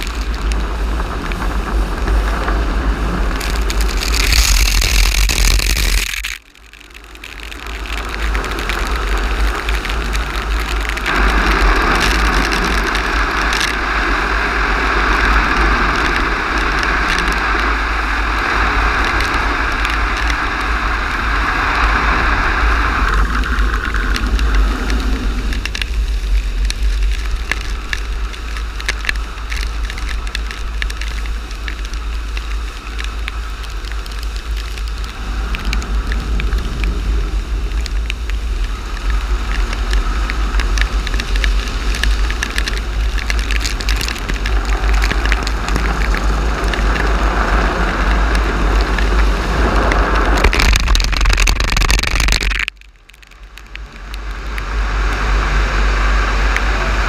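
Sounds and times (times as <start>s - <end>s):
car wash brushes and water hiss: 0.0s - 6.3s, 7.2s - 50.4s, 54.0s - 57.0s
crackling water spatter: 0.0s - 57.0s
deep rumble: 0.0s - 57.0s.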